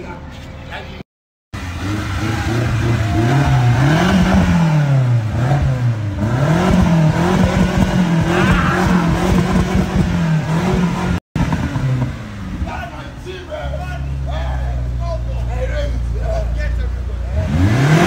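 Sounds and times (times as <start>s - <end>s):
car engine revving: 1.6s - 18.0s.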